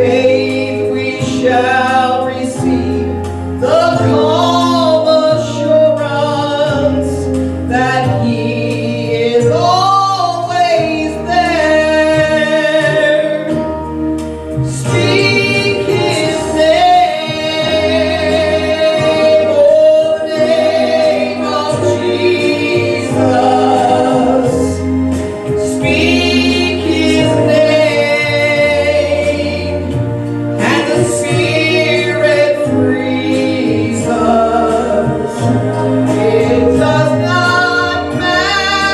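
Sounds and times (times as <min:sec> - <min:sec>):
voices singing together: 0:00.0 - 0:13.8, 0:14.6 - 0:38.9
instrumental accompaniment: 0:00.0 - 0:38.9.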